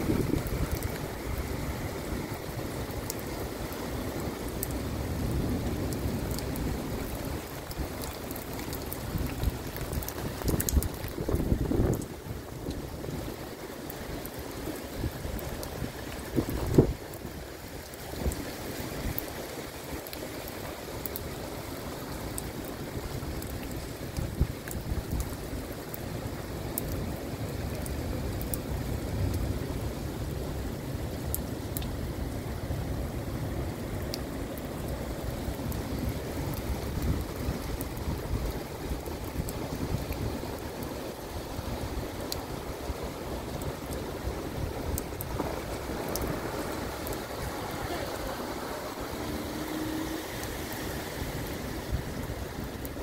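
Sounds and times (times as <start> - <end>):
wind gusts on microphone: 0.0 - 20.1, 21.7 - 53.0
heavy rain: 0.0 - 53.0.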